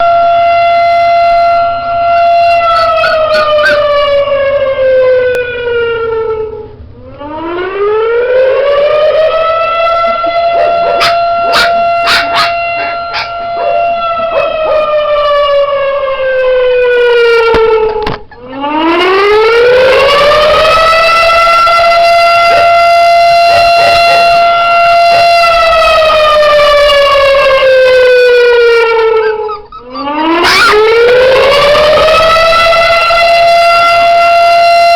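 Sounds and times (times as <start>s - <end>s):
wailing siren: 0.0s - 34.9s.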